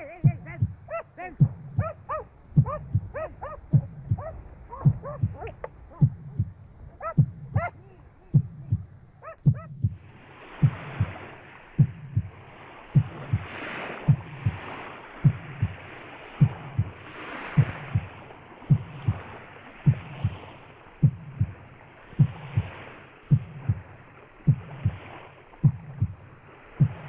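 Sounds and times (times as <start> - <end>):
heartbeat thumps: 0.0 - 27.0.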